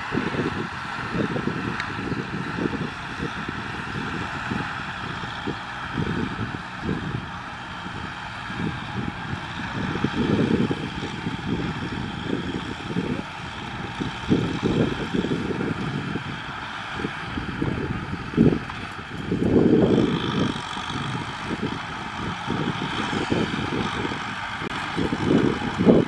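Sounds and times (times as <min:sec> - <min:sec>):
tractor diesel engine running: 0:00.0 - 0:26.0
wind buffeting microphone: 0:00.0 - 0:26.0.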